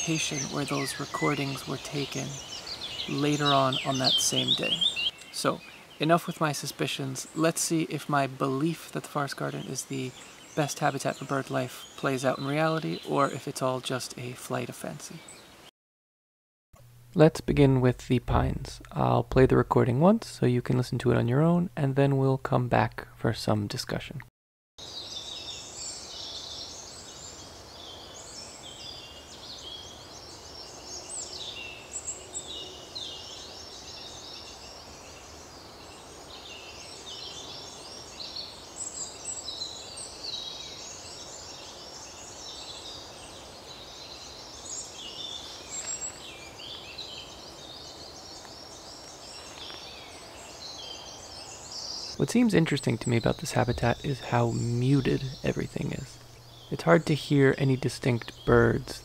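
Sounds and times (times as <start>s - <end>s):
distant songbirds singing: 0.0s - 15.7s, 24.8s - 59.0s.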